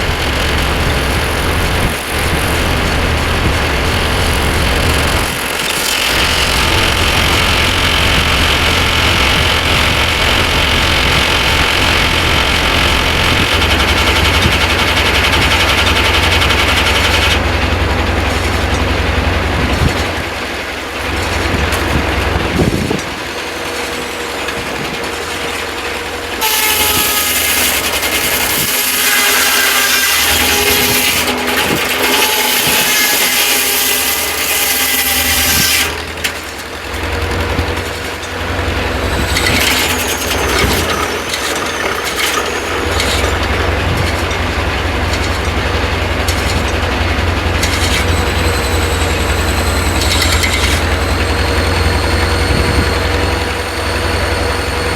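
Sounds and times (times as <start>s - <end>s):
engine running: 0.0s - 54.9s
sawmill sawing log: 0.0s - 54.9s.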